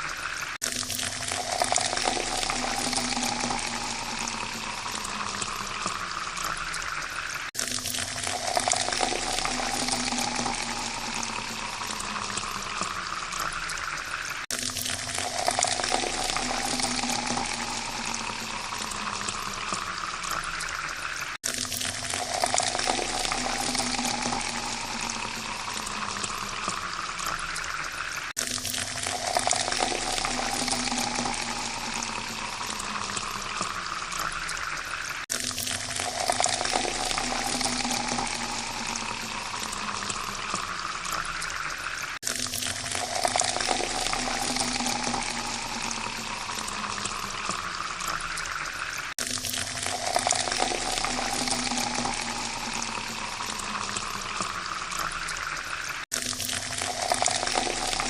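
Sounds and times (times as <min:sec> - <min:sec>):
water pouring into a glass: 0:00.0 - 0:58.0.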